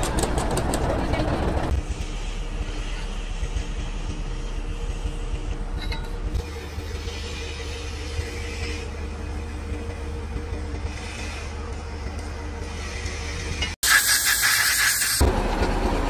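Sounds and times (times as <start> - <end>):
bulldozer diesel engine running: 0.0 - 13.8, 15.2 - 16.0.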